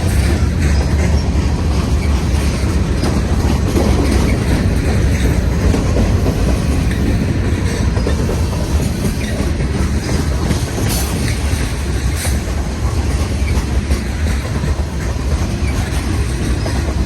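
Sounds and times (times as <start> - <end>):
freight train rumbling past: 0.0 - 17.0
wheels clacking over rail joints: 0.0 - 17.0.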